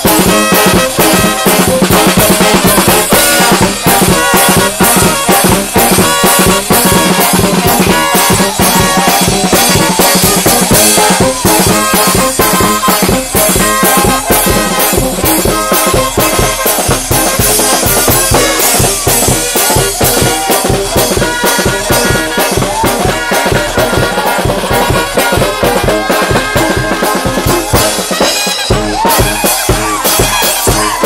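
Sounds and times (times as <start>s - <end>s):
bass drum and cymbals beat: 0.0s - 31.0s
brass band playing dance tune: 0.0s - 31.0s.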